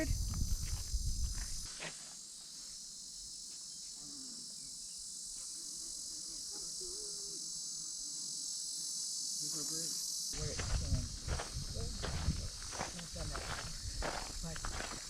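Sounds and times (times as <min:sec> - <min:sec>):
insects calling: 0:00.0 - 0:15.0.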